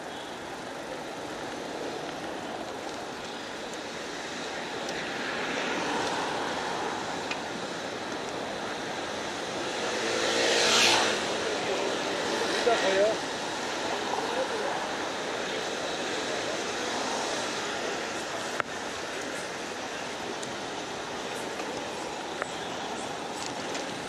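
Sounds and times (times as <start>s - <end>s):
passing vehicles rushing: 0.3s - 24.0s.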